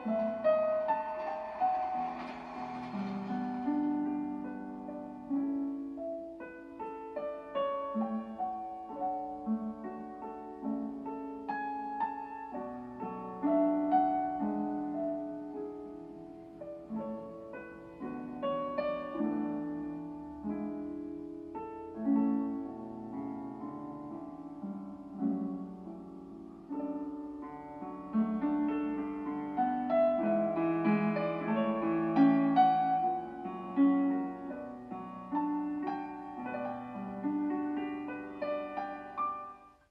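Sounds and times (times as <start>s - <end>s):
gentle piano melody: 0.0s - 39.9s.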